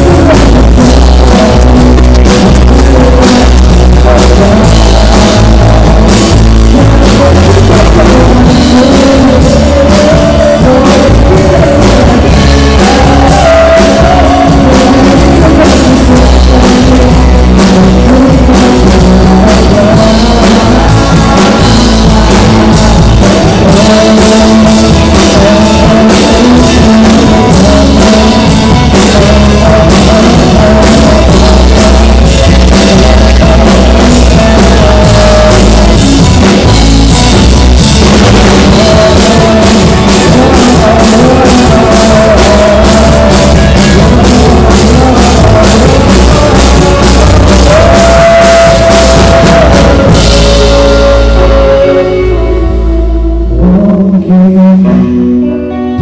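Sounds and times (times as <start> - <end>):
drum kit: 0.0 - 55.5
bass guitar: 0.0 - 56.0
electric guitars: 0.0 - 56.0
person singing into a microphone: 0.0 - 56.0.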